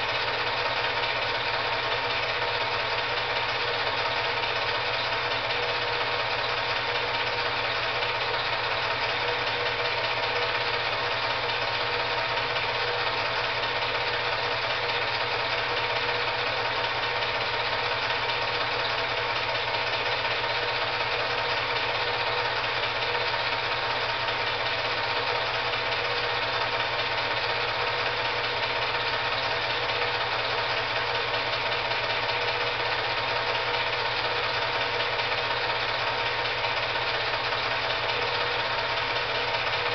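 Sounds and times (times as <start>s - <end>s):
film advancing clatter: 0.0s - 39.9s
film projector whirring: 0.0s - 39.9s.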